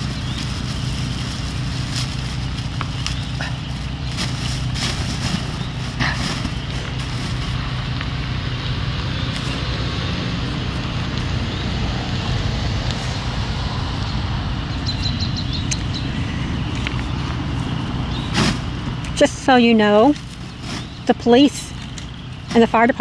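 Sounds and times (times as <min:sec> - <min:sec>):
generator engine running: 0:00.0 - 0:23.0.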